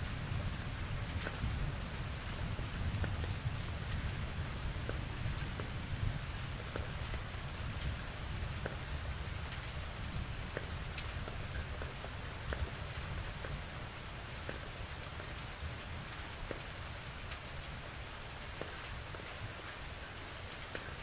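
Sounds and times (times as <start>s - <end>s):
rain falling: 0.0s - 21.0s
raindrops ticking on a surface: 0.0s - 21.0s.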